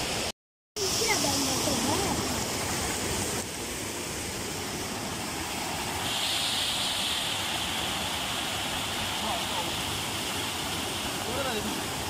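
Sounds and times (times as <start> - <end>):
water gushing from sluice gate: 0.0 - 12.0.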